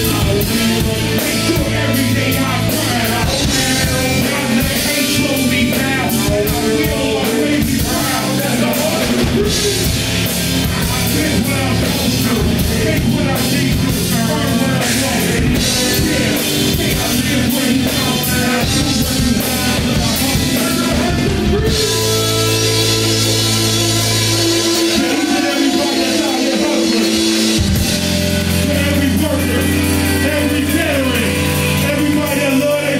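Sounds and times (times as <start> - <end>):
distorted electric guitar: 0.0 - 32.9
drum kit: 0.0 - 32.9.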